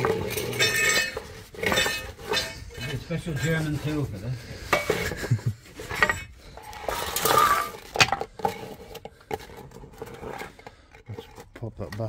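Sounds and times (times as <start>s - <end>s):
hand tools and metal clattering: 0.0s - 12.0s.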